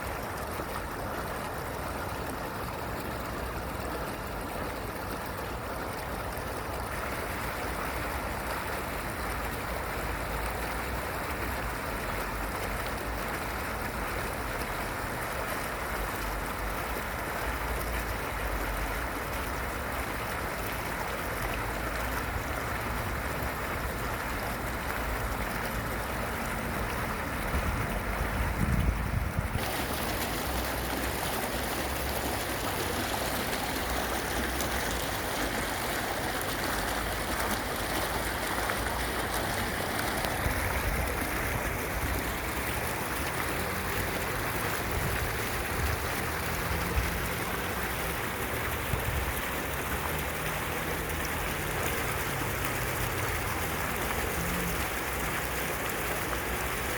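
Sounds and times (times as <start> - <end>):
fountain water splashing: 0.0 - 56.9.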